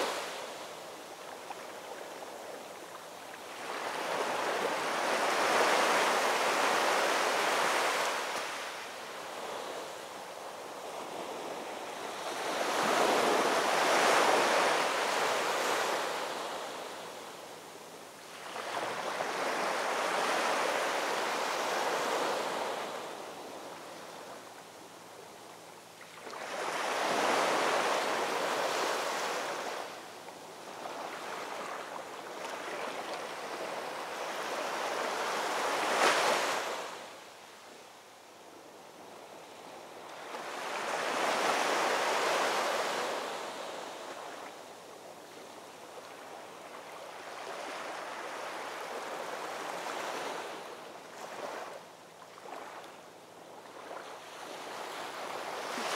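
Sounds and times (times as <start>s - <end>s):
waves washing onto shore: 0.0s - 37.6s, 39.3s - 55.9s.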